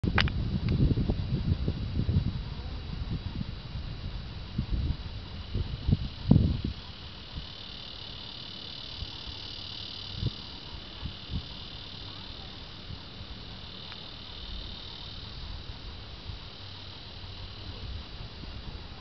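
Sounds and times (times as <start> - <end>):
insects chirring: 0.1 - 19.0.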